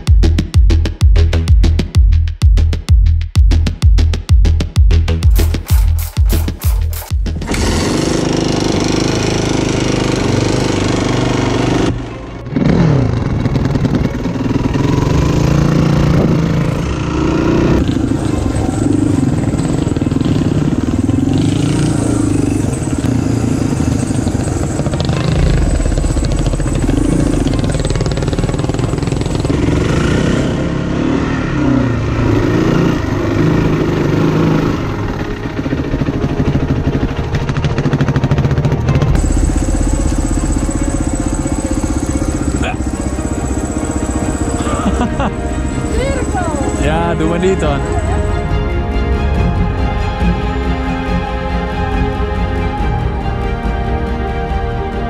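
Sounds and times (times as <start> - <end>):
motorcycle engine revving: 4.9 - 50.9.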